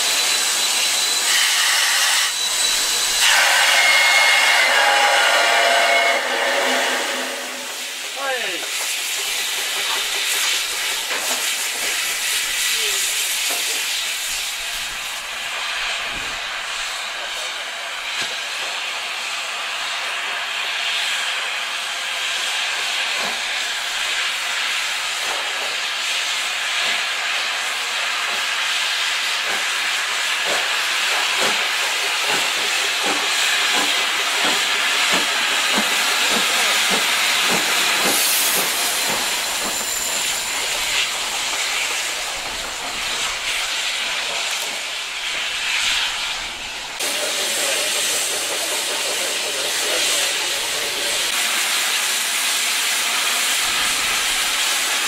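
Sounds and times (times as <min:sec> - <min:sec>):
steam locomotive hissing steam: 0:00.0 - 0:55.0.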